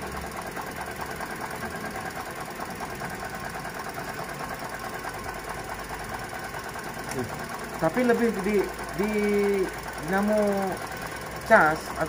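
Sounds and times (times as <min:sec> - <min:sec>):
car engine idling with rattling knock: 0:00.0 - 0:12.0.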